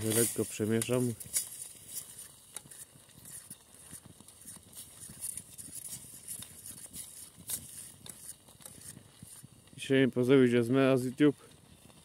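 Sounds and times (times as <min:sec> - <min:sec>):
spoon stirring in metal pot: 0:00.0 - 0:09.7
wood fire crackling in stove: 0:00.0 - 0:12.0.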